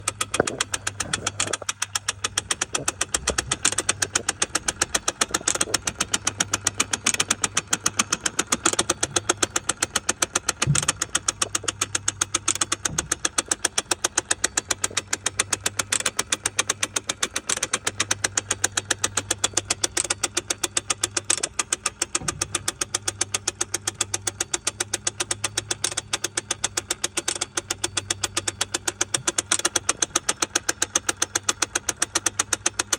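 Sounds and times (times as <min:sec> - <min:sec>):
car engine idling: 0:00.0 - 0:32.9
fast even ticking: 0:00.0 - 0:32.9.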